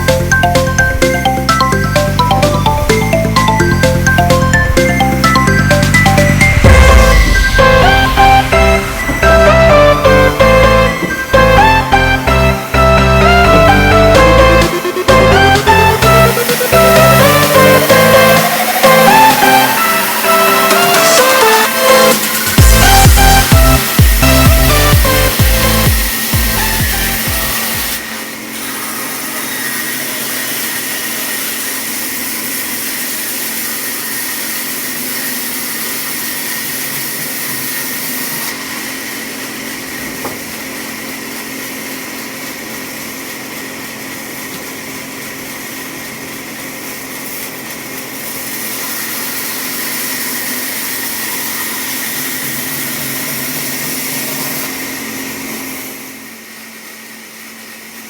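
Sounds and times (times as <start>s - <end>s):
power saw cutting wood: 0.0s - 57.8s.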